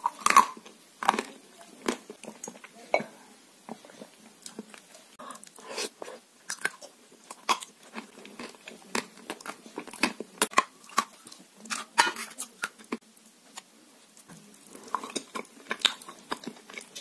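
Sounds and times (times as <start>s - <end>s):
person chewing: 0.0s - 2.7s, 4.0s - 17.0s.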